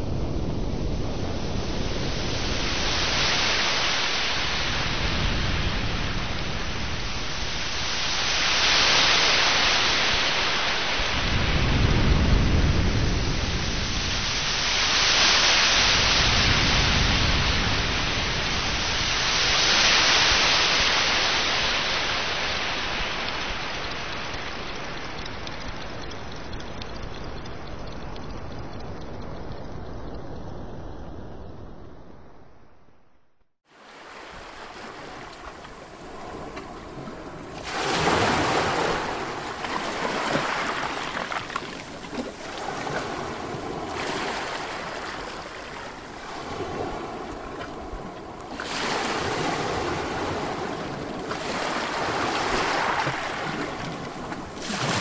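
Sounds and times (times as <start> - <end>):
low rumble of waves: 0.0 - 33.1, 33.7 - 55.0
sea waves hissing surf: 1.0 - 25.2, 33.8 - 55.0.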